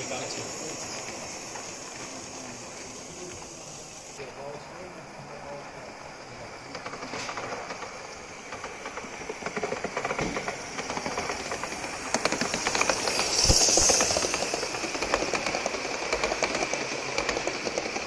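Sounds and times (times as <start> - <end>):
model steam locomotive chuffing: 0.0 - 18.0
steam hiss: 0.0 - 18.0.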